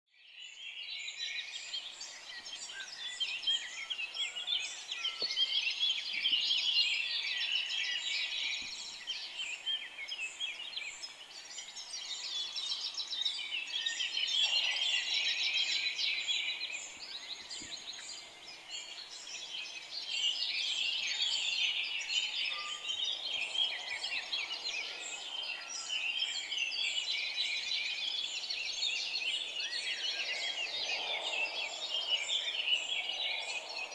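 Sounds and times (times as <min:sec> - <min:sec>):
songbirds singing in chorus: 0:00.1 - 0:33.9.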